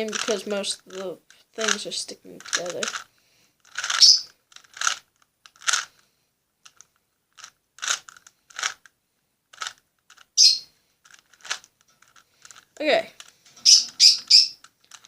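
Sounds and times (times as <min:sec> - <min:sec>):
plastic cube twisting clicks: 0:00.0 - 0:06.0, 0:06.6 - 0:15.0.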